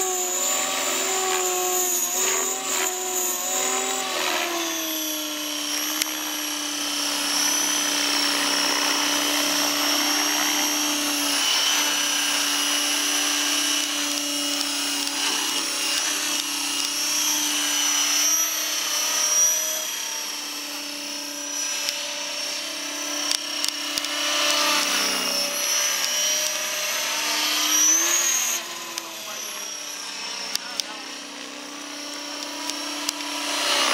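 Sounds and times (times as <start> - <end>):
rc helicopter motor and rotors whining: 0.0 - 33.9.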